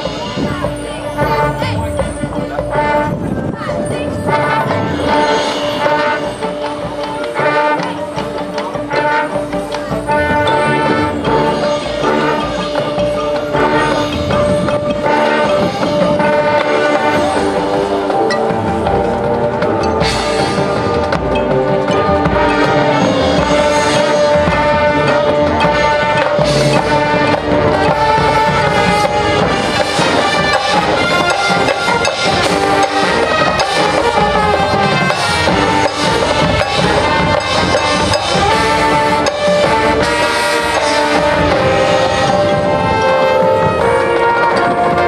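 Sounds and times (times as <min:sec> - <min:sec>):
drums and percussion: 0:00.0 - 0:45.0
brass holding chords: 0:04.1 - 0:45.0.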